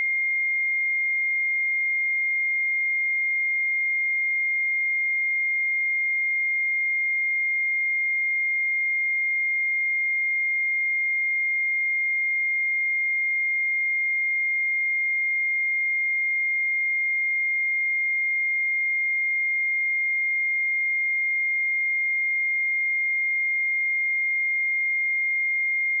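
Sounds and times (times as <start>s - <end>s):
sine wave test tone: 0.0s - 26.0s.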